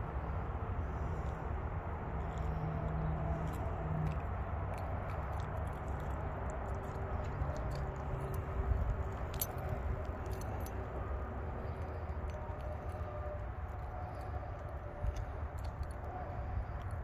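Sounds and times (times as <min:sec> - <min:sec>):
metallic clicks and jingles: 0:00.9 - 0:17.0.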